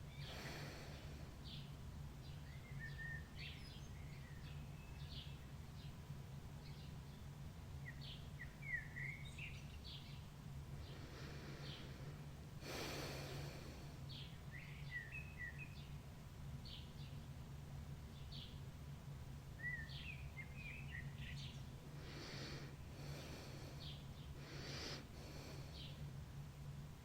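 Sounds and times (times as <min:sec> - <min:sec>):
soft rush of noise: 0:00.0 - 0:27.0
songbirds chirping and trilling: 0:00.0 - 0:27.0
steady low hum: 0:00.0 - 0:27.0.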